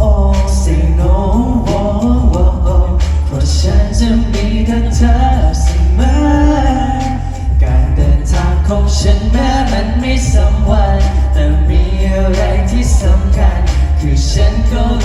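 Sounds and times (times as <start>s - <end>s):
pop song over loudspeakers: 0.0s - 15.0s.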